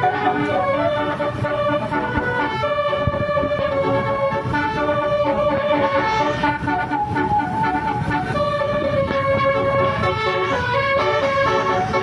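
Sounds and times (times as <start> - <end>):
musical air horn playing melody: 0.0 - 12.0.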